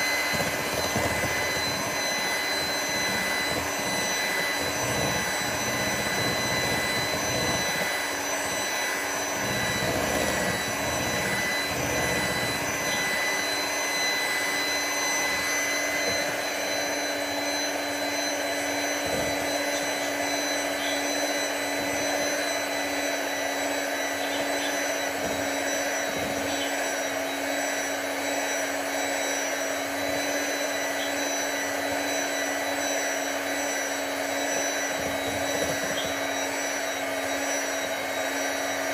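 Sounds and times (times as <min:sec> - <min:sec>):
electric hand mixer whipping cream: 0:00.0 - 0:38.9.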